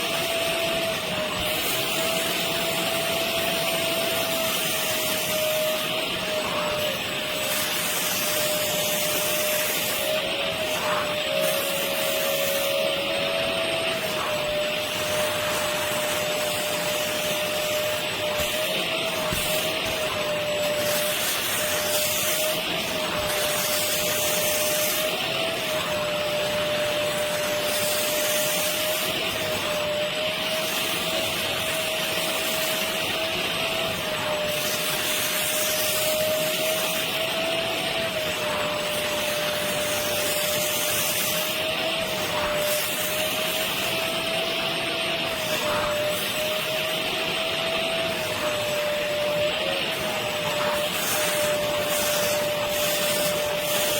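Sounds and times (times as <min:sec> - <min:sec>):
vacuum motor hissing whine: 0:00.0 - 0:53.9.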